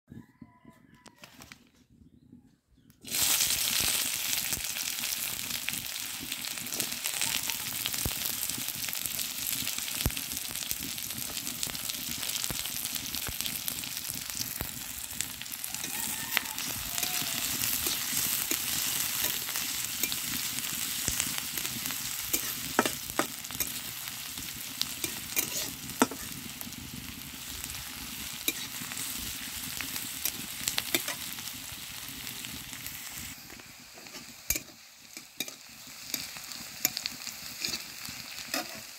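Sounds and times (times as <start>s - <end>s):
onions sizzling in hot oil: 3.0s - 38.9s.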